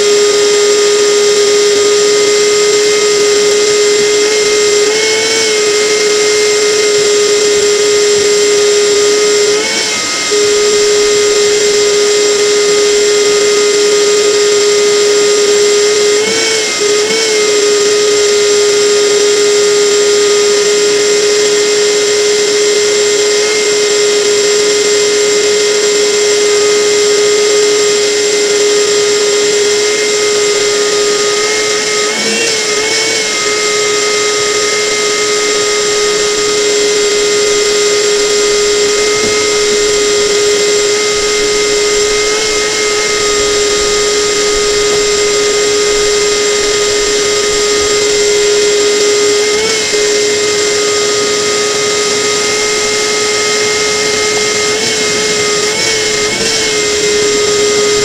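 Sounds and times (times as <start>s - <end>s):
motor tool whining: 0.0s - 58.0s.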